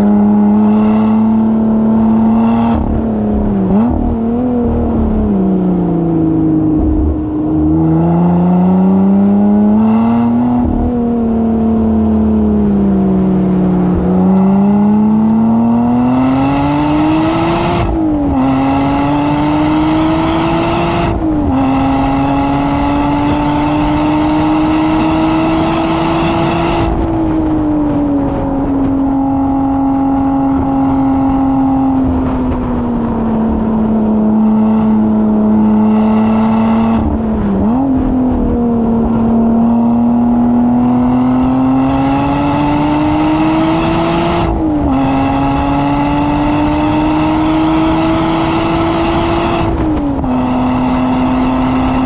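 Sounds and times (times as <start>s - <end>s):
racing car engine revving: 0.0s - 52.0s.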